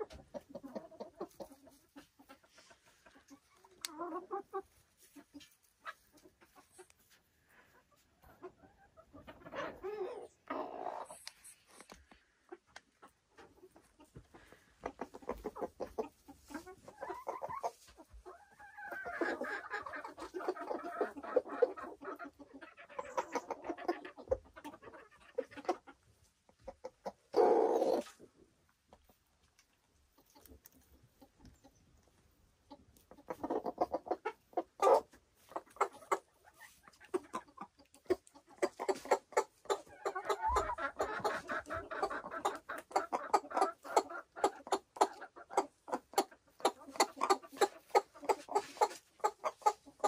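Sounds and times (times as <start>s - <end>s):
chicken clucking: 0.0s - 50.0s.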